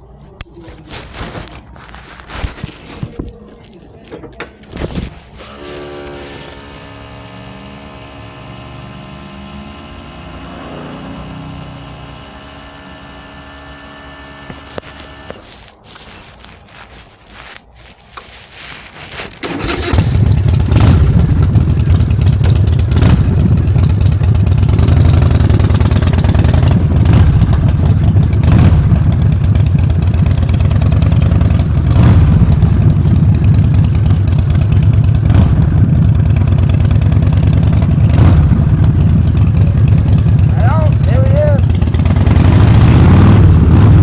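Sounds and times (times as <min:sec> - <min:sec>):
scooter engine starting and running: 0:04.2 - 0:15.7, 0:19.1 - 0:44.0.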